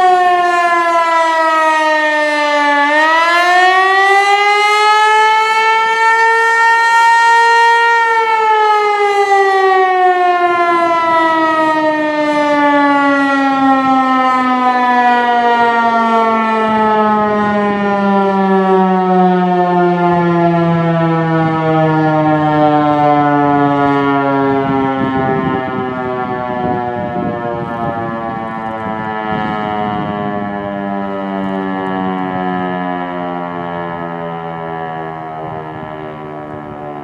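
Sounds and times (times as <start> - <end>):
electronic warning siren: 0.0 - 37.0.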